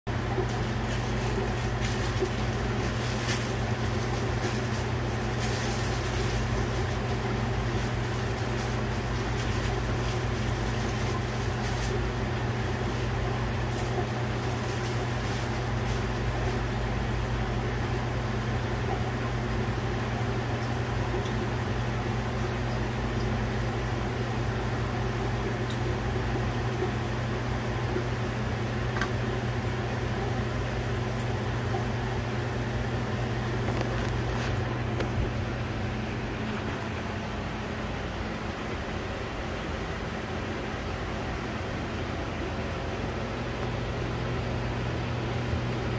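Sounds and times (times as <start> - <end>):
aquarium pumps humming: 0.1 - 45.9
water circulating: 0.1 - 45.9.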